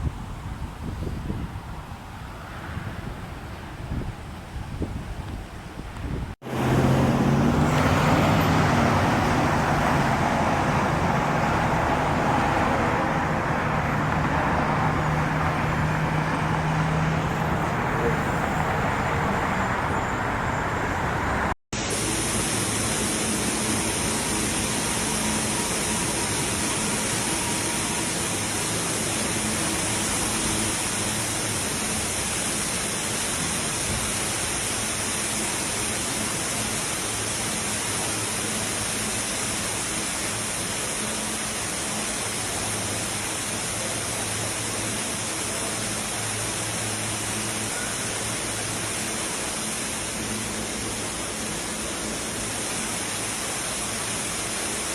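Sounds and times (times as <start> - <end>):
rushing storm water: 0.0 - 54.9.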